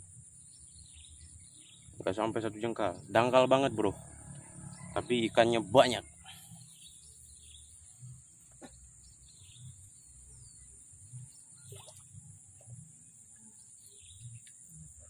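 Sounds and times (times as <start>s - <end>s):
bird chirps: 0.4s - 15.0s.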